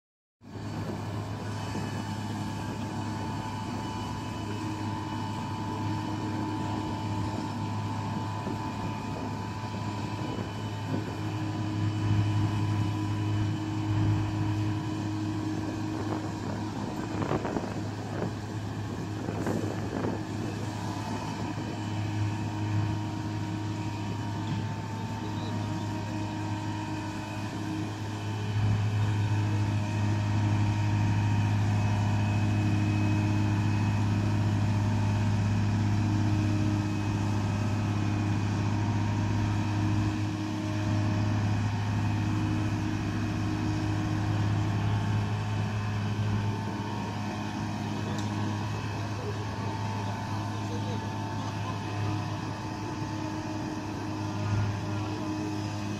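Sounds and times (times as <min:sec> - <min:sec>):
crane engine running under load: 0:00.4 - 0:55.9.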